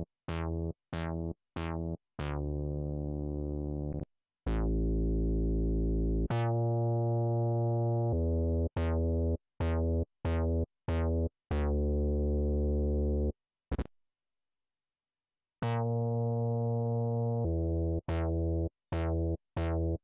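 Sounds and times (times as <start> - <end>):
synthesizer bass notes: 0.3 - 13.3, 15.6 - 20.0.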